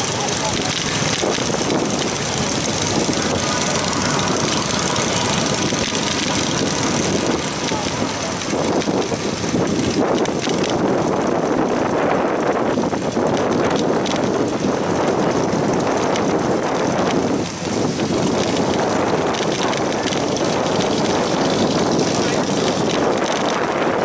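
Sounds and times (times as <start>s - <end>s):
bicycle tyres on pavement: 0.0s - 24.0s
wind rush on microphone: 0.0s - 24.0s.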